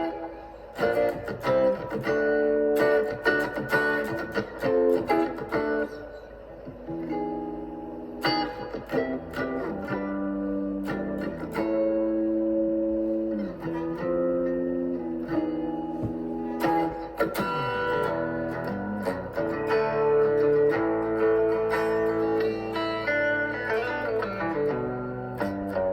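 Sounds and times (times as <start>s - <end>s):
guitar notes and chords: 0.0s - 25.9s.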